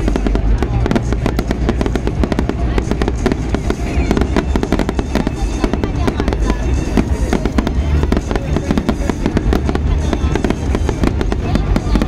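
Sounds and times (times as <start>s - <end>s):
deep booming rumble: 0.0s - 12.0s
fireworks bangs and crackles: 0.0s - 12.0s.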